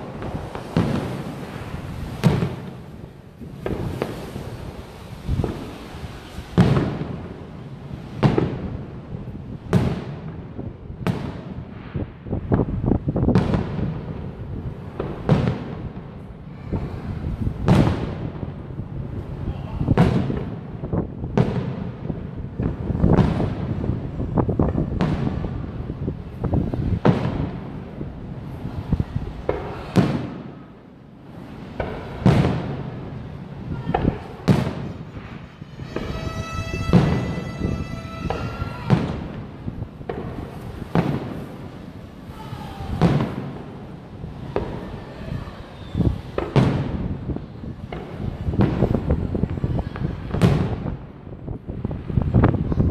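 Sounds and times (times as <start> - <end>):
firework shells booming: 0.0 - 52.6
small quick firework bangs: 0.0 - 52.8.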